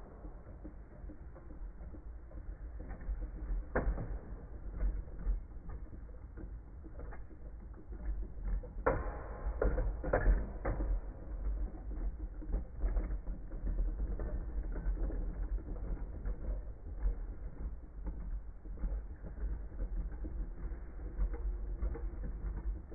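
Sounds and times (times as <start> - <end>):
spinning tops whirring and scraping: 0.0 - 22.9.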